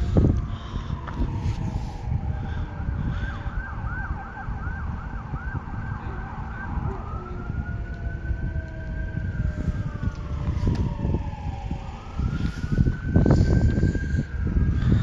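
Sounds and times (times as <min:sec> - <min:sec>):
emergency vehicle siren: 0:00.0 - 0:15.0
steady low rumble: 0:00.0 - 0:15.0.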